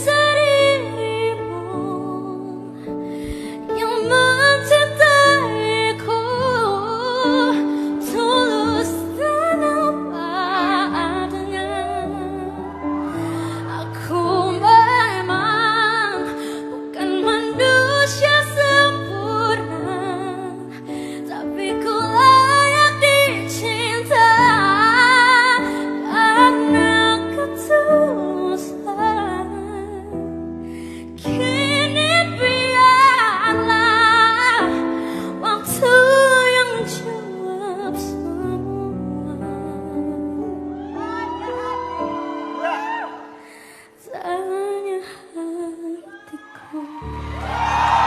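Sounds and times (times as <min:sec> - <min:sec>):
woman singing with vibrato: 0:03.5 - 0:30.1, 0:31.2 - 0:47.5.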